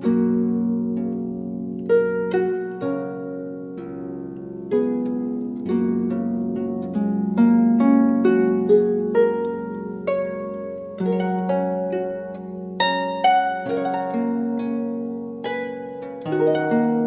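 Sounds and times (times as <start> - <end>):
plucked notes: 0.0 - 17.0.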